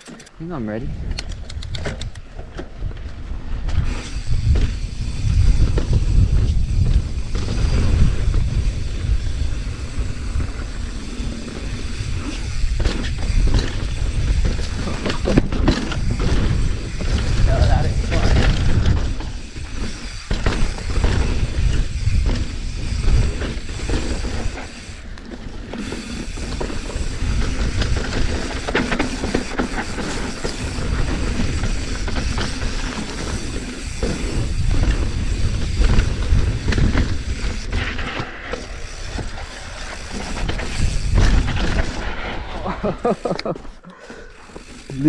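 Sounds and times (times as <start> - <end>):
wind on microphone: 0.5 - 43.0
bike rattling over bumps: 1.7 - 45.0
bike tyres on dirt: 2.2 - 45.0.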